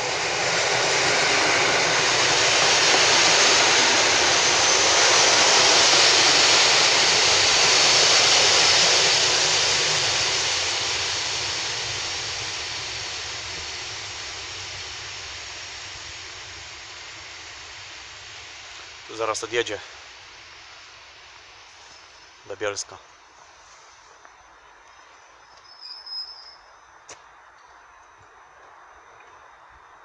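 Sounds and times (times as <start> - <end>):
electric train running past: 0.0 - 30.0.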